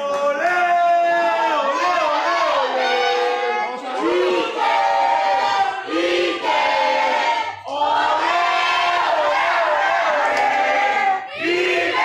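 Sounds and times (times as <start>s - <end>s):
crowd chanting and shouting: 0.0s - 12.0s.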